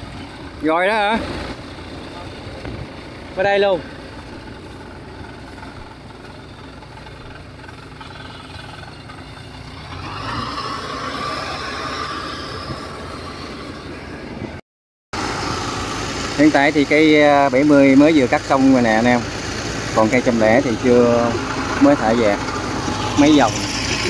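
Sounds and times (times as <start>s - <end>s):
combine harvester running: 0.0s - 14.6s, 15.2s - 24.0s.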